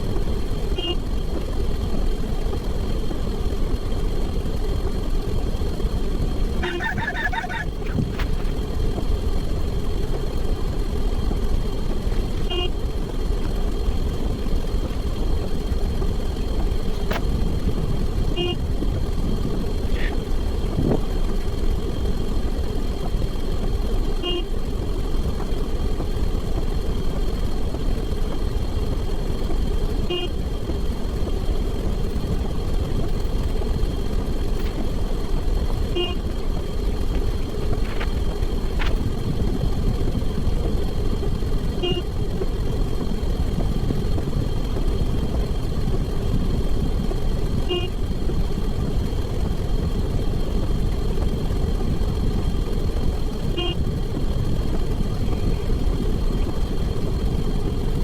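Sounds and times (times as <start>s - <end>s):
traffic-like rumble: 0.0s - 58.0s.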